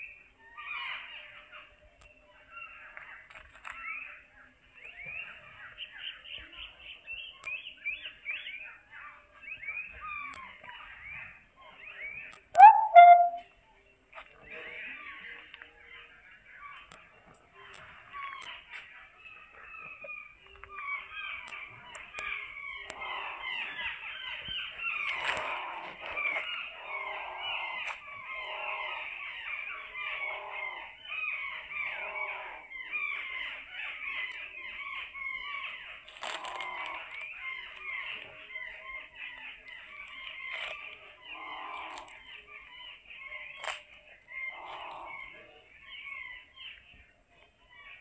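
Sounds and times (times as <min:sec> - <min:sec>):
many birds chirping and clucking: 0:00.0 - 0:48.0.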